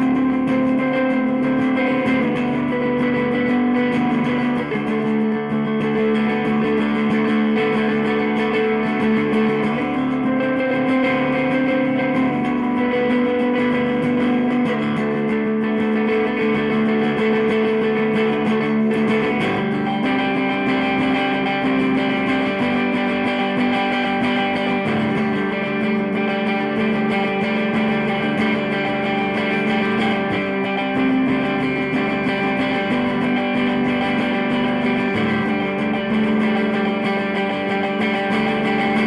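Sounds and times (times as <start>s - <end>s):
electric guitar notes and chords: 0.0s - 39.0s.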